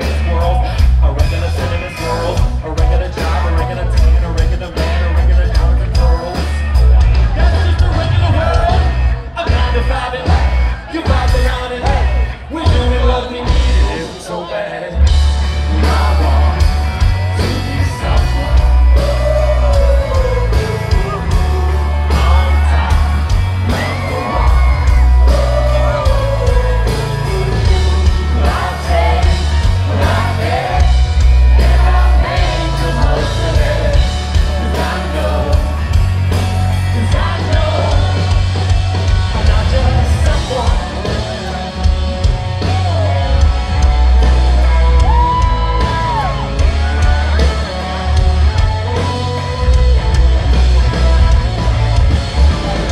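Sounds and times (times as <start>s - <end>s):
live rock band: 0.0s - 52.9s
singer on microphone: 0.0s - 52.9s.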